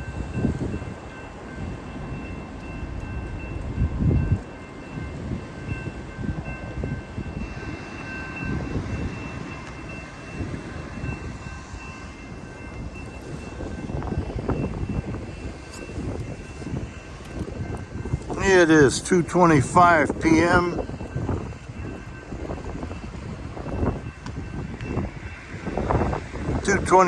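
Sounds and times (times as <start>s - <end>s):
train cars rumbling: 0.0s - 27.0s.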